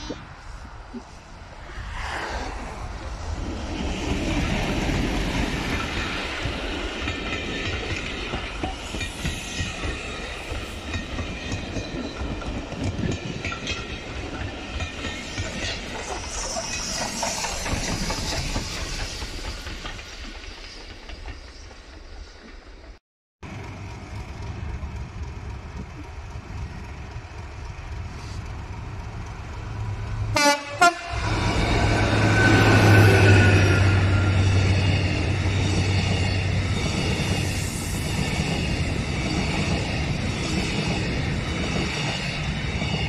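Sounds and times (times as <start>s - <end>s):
diesel locomotive engine: 0.0s - 43.0s
train wheels clickety-clack: 3.7s - 43.0s.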